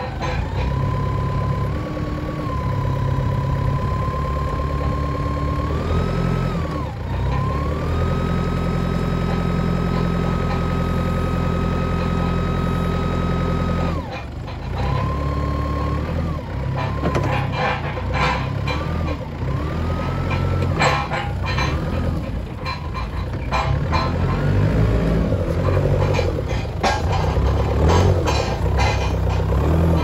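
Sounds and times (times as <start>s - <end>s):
forklift engine running: 0.0s - 30.0s
hydraulic whine: 0.0s - 30.0s.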